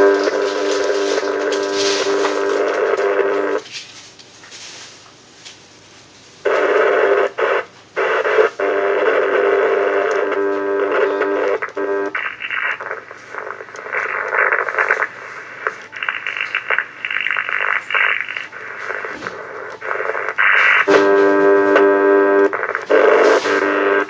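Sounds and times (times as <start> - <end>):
buzzing tone: 0.0 - 3.6, 6.5 - 24.0
radio static hissing: 0.0 - 3.7, 5.7 - 24.0.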